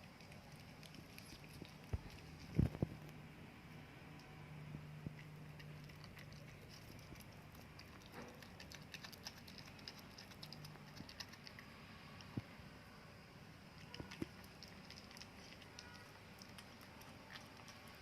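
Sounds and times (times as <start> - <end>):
cat chewing and licking: 0.0 - 3.2, 4.1 - 12.6, 13.6 - 18.0
low steady hum: 0.0 - 18.0.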